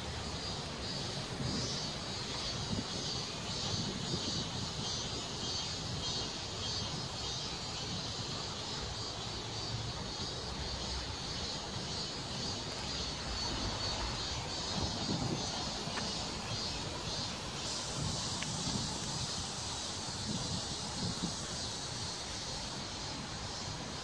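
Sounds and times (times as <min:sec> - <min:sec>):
high-pitched insect drone: 0:00.3 - 0:24.0.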